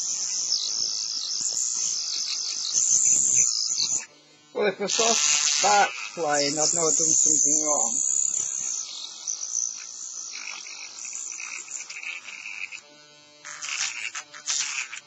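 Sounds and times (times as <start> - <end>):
rotary cutting disc whining on plastic: 0.0 - 15.0.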